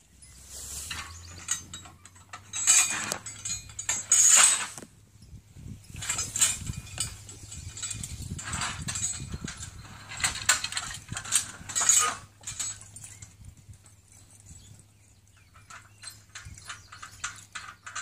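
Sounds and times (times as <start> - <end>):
metal chains clinking and rattling: 0.0 - 18.0.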